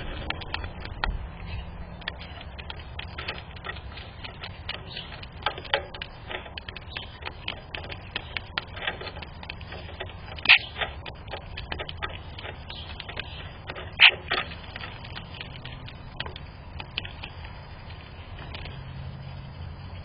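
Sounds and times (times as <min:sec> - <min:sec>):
light tapping and clicking: 0:00.0 - 0:19.1
low background hum: 0:00.0 - 0:20.0.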